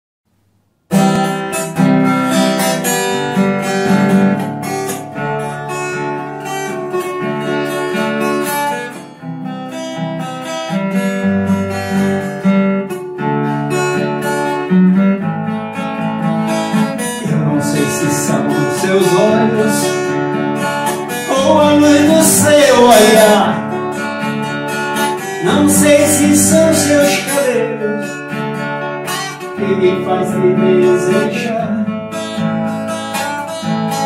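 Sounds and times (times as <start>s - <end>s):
acoustic guitar strumming chords: 0.8s - 34.0s.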